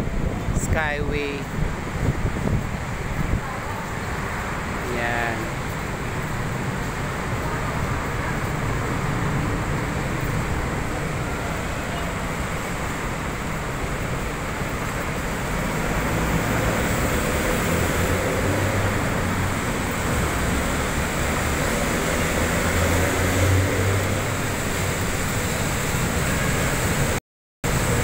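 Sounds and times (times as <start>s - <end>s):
city road traffic: 0.0s - 28.0s.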